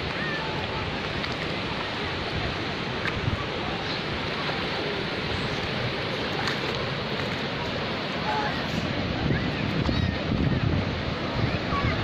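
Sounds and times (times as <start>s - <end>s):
sea surf: 0.0s - 12.0s
stream falling into the sea: 0.0s - 12.0s.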